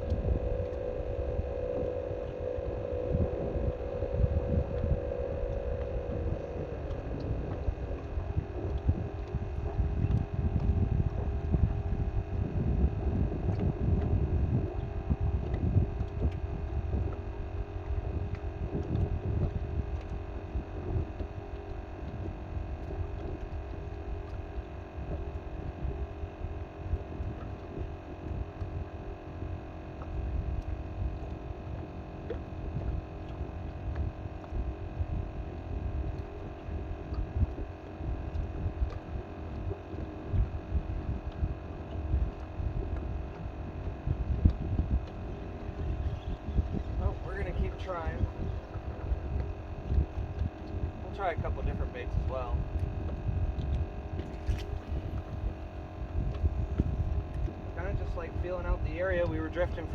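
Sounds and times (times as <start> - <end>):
steady hum of fixed tones: 0.0 - 59.9
wind buffeting microphone: 0.0 - 59.9.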